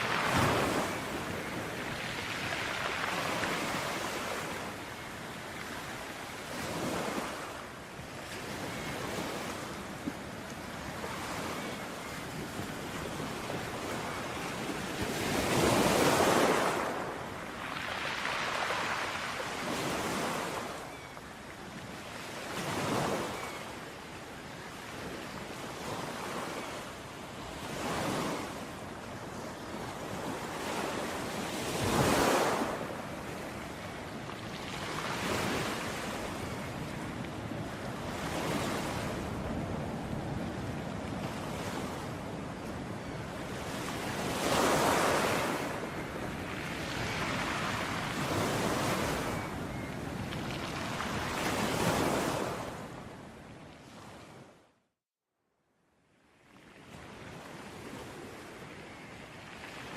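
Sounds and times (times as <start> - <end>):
ocean waves breaking: 0.0 - 53.1.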